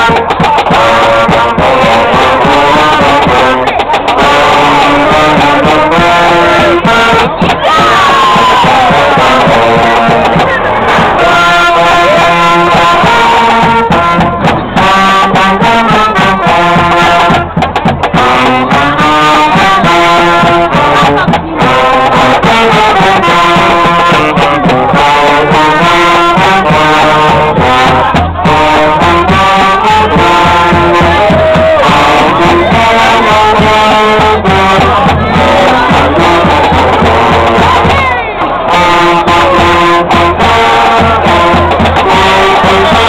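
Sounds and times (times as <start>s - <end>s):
brass street band playing: 0.0s - 43.0s.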